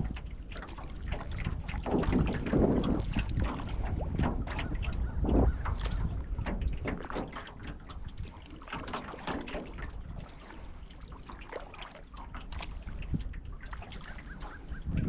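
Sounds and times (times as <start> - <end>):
paddle splashing water: 0.0 - 15.0.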